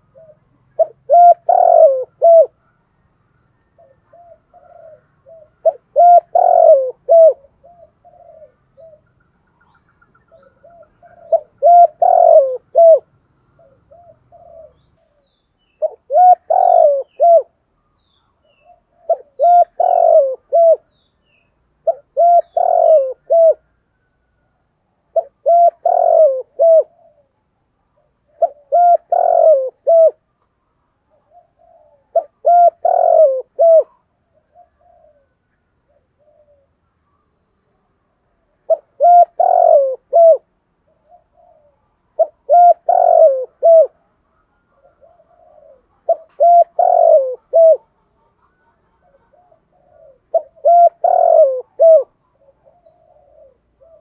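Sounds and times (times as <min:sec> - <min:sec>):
dove cooing: 0:00.0 - 0:02.7, 0:03.7 - 0:09.3, 0:10.1 - 0:17.6, 0:18.4 - 0:21.0, 0:21.8 - 0:24.2, 0:25.0 - 0:30.3, 0:31.1 - 0:36.8, 0:38.4 - 0:54.0.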